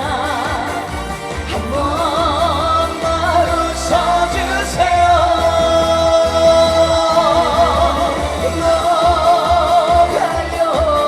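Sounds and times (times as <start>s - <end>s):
band backing track with bass beat: 0.0s - 11.0s.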